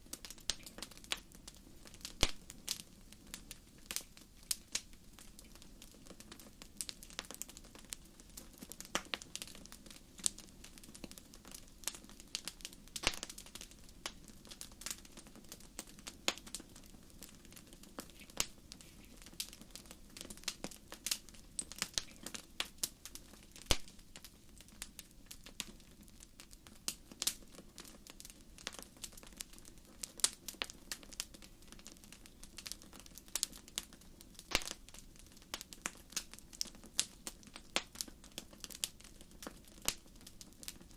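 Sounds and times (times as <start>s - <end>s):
low steady burning noise: 0.0s - 40.9s
wood fire crackling and popping: 0.0s - 40.9s.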